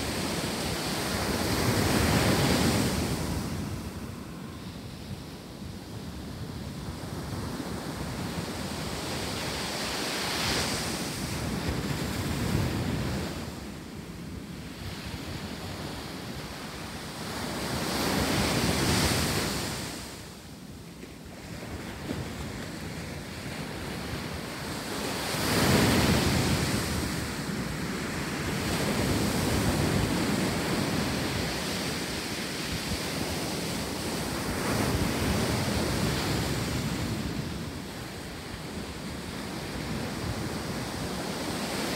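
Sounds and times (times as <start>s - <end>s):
ocean waves breaking on sand: 0.0s - 41.9s.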